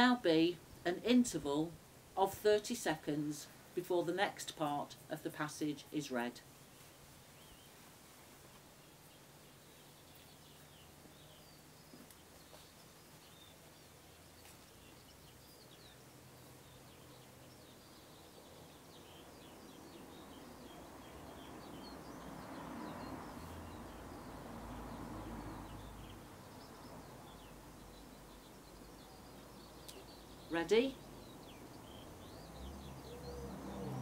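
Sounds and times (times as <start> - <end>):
small birds chirping: 4.9 - 34.0.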